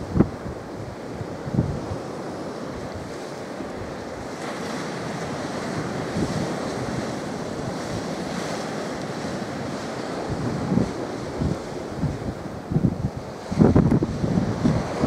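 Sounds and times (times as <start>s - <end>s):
rushing wind: 0.0s - 15.0s
wind buffeting microphone: 0.0s - 15.0s.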